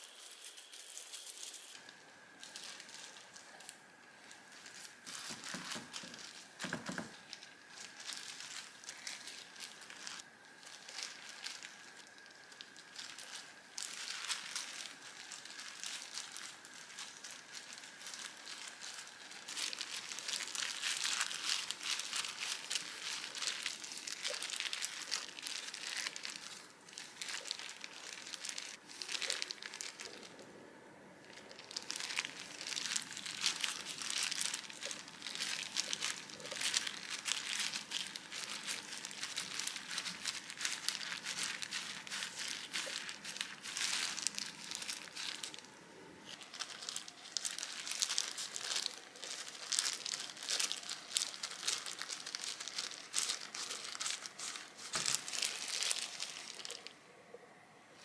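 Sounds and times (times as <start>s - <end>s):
seaweed sheets rustling: 0.0s - 30.4s, 31.2s - 57.0s
plastic gloves crinkling: 0.0s - 30.6s, 31.2s - 57.4s.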